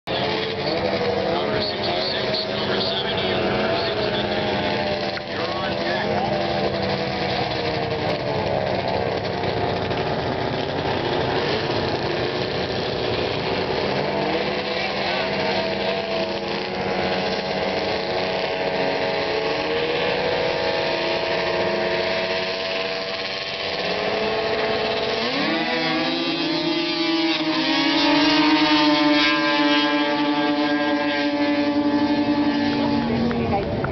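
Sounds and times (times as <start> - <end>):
snowmobile engines idling and blipping: 0.0 - 33.9
snowmobile engine revving up: 0.1 - 33.9.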